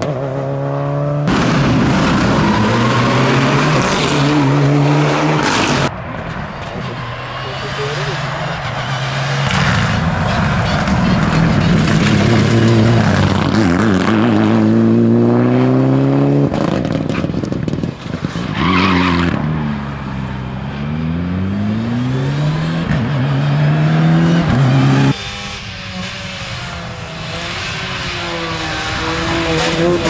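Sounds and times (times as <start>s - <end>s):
rally car engine revving: 0.0s - 5.9s, 6.6s - 30.0s.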